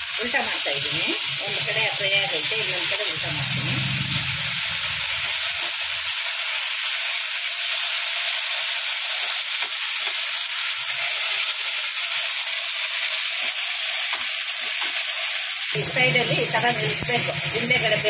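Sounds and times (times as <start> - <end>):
fish sizzling in oil: 0.0 - 18.0.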